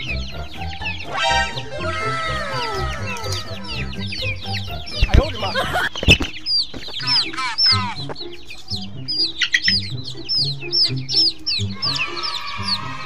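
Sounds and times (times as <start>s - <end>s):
background music with bass: 0.0s - 13.0s
chicks peeping: 0.0s - 13.0s.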